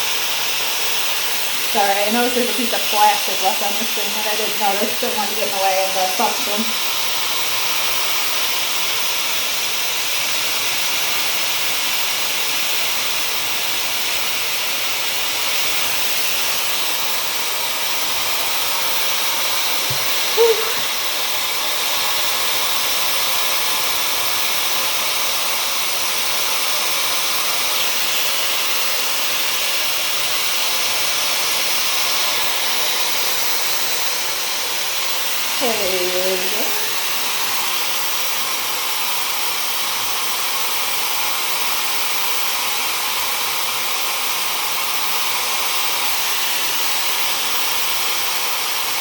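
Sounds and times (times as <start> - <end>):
hair dryer blowing air: 0.0 - 49.0.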